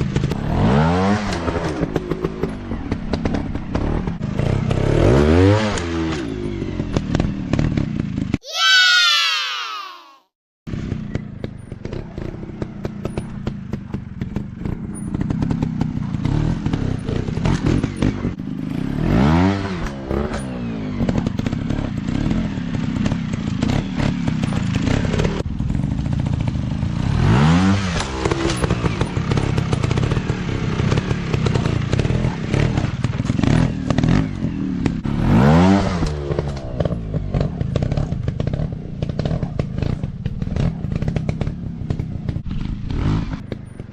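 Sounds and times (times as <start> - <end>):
dirt bike engines revving: 0.1 - 43.9.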